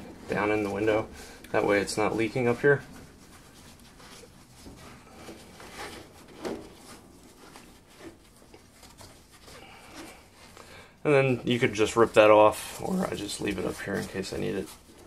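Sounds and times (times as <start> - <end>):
foam strip rustling and scuffing: 0.1 - 10.6, 11.5 - 15.0.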